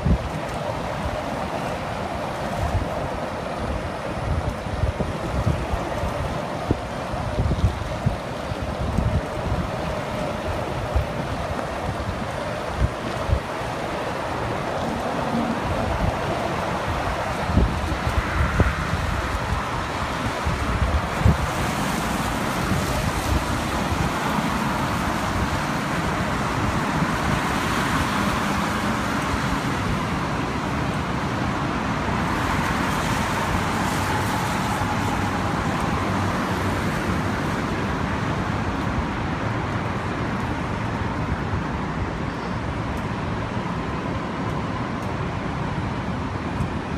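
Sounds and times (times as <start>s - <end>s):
traffic on wet road: 0.0s - 46.9s
wind gusts on microphone: 0.0s - 46.9s.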